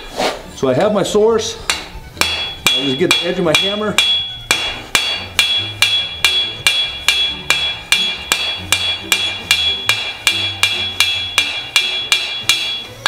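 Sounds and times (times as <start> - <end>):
hammer striking horseshoe on anvil: 1.7 - 13.0.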